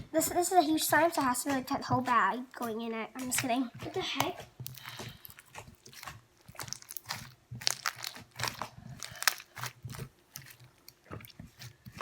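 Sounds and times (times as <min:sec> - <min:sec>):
crunchy slime crackling: 0:00.2 - 0:12.0.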